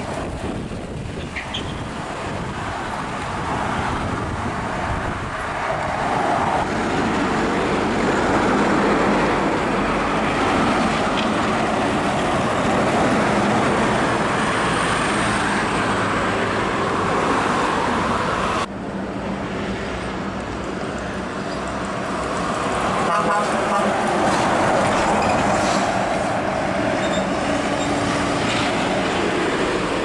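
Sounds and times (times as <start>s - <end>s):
highway traffic passing: 0.0s - 30.0s.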